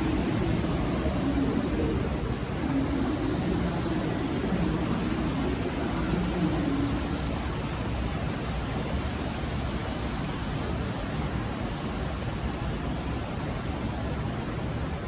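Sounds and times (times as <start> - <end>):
diesel railcar train rumbling: 0.0 - 14.9.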